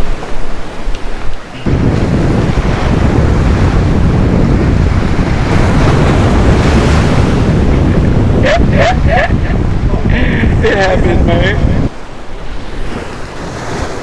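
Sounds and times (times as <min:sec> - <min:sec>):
surf breaking against rocks: 0:00.0 - 0:12.0
wind buffeting the microphone: 0:00.0 - 0:14.0.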